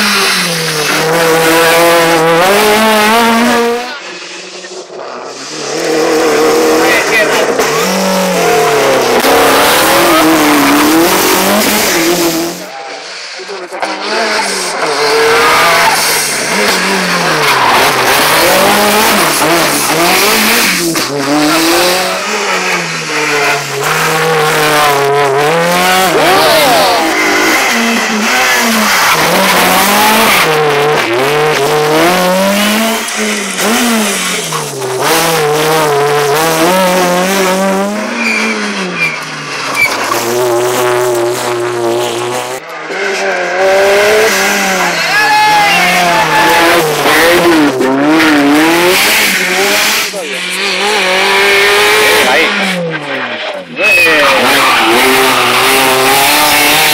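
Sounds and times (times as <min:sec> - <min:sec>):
rally car engine revving hard: 0:00.0 - 0:12.8, 0:13.8 - 0:56.9.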